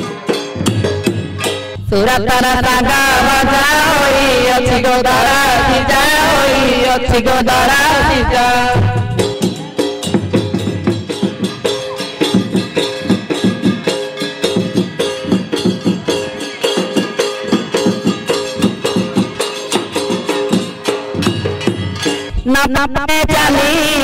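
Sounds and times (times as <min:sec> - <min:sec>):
fast even drumming: 0:02.9 - 0:23.9.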